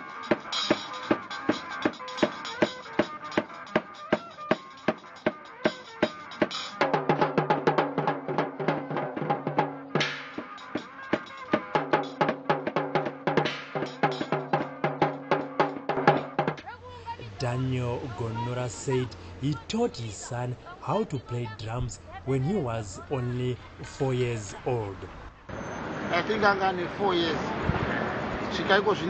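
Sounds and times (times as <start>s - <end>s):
drum beaten in steady rhythm: 0.0s - 24.9s.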